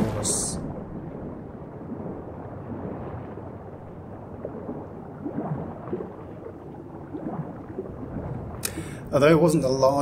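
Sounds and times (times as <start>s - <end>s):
low underwater rushing: 0.0s - 10.0s.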